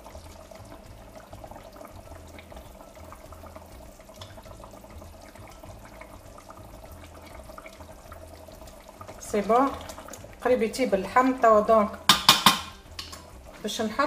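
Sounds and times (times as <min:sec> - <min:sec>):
stew bubbling in pot: 0:00.0 - 0:14.0.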